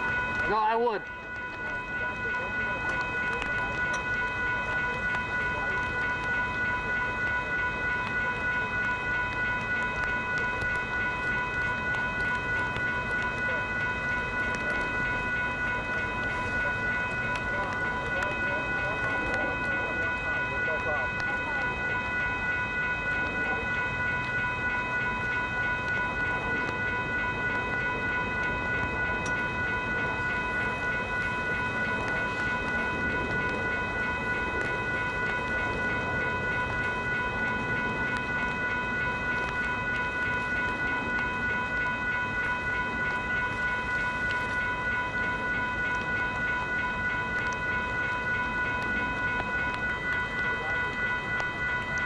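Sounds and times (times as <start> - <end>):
railroad crossing bell ringing: 0.0 - 52.0.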